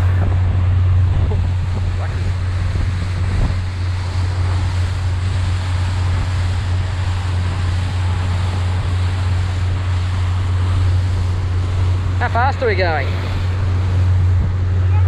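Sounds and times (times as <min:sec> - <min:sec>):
outboard motor droning: 0:00.0 - 0:15.0
water rushing along hull: 0:00.0 - 0:15.0
wind on microphone: 0:00.0 - 0:15.0.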